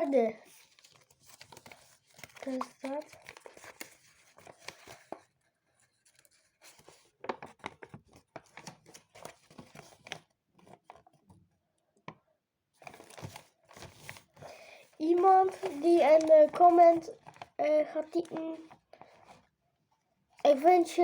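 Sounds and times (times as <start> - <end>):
packaging rustling and crinkling: 0.0 - 11.2, 12.8 - 19.5.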